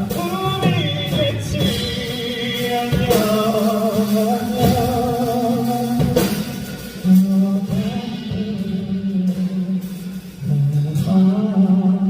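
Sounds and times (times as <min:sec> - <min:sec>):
band with drums and guitar: 0:00.0 - 0:12.0
man singing: 0:00.0 - 0:12.0.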